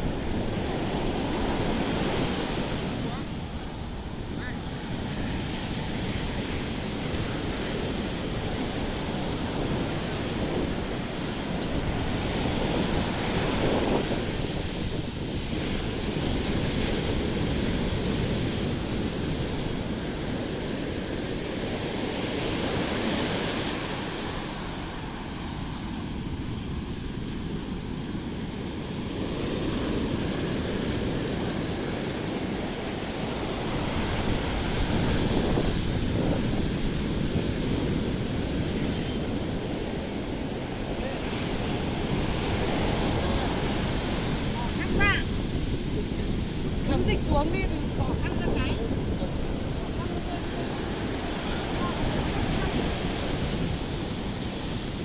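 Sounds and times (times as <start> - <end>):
waves washing onto beach: 0.0 - 55.0
wind on microphone: 0.0 - 55.0.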